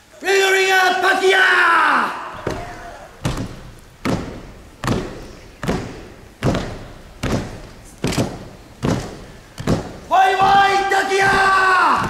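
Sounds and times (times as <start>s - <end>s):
body slaps echoing in a hall: 2.3s - 12.0s.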